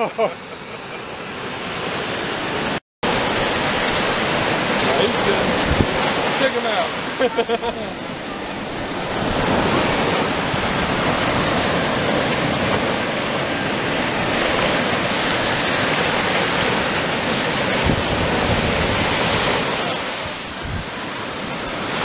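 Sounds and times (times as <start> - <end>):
ocean surf washing over sand: 0.0 - 22.0
waves breaking: 0.0 - 22.0.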